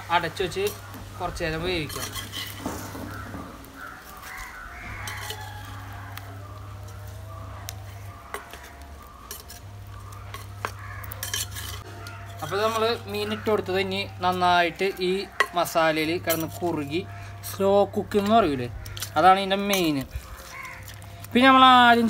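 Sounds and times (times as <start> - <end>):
metal spoon stirring curry: 0.2 - 21.4.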